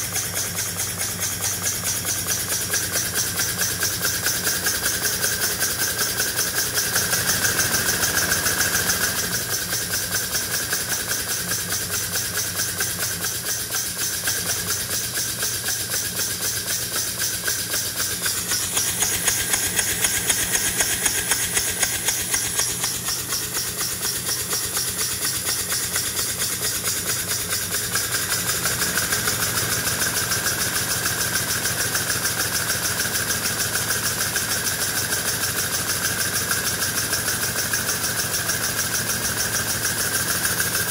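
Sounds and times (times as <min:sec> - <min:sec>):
steam locomotive exhaust beats: 0:00.0 - 0:40.9.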